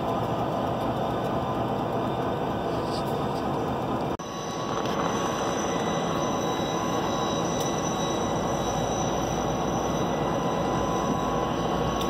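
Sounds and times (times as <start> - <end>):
diesel locomotives idling: 0.0 - 12.0
high whine: 0.0 - 12.0.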